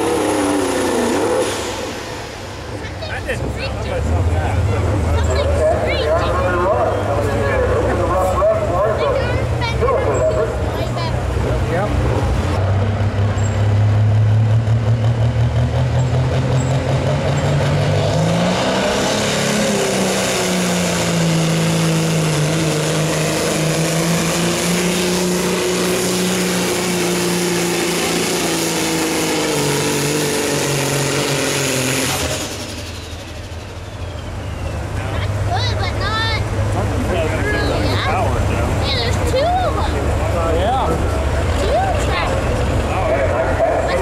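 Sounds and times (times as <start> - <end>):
diesel truck engine revving: 0.0 - 44.0.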